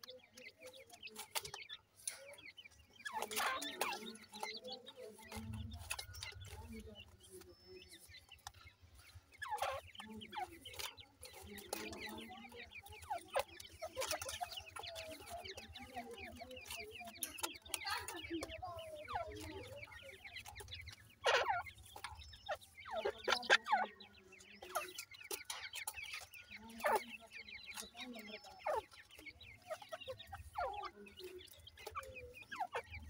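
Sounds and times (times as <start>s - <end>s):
chicks peeping: 0.0s - 33.0s
hen clucking softly: 0.0s - 33.0s.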